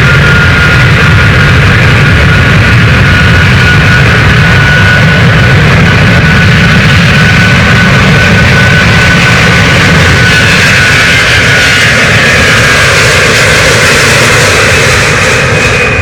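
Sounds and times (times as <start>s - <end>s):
high engine whine: 0.0s - 16.0s
jet engines roaring: 0.0s - 16.0s.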